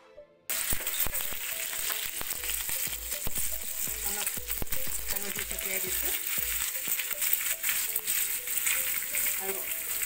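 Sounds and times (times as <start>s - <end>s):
eggs sizzling in oil: 0.5s - 10.0s.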